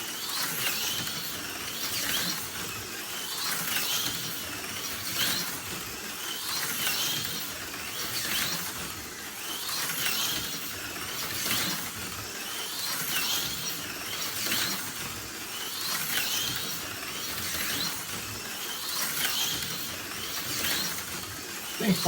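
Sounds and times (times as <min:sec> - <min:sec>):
slot car motor whining: 0:00.1 - 0:22.0.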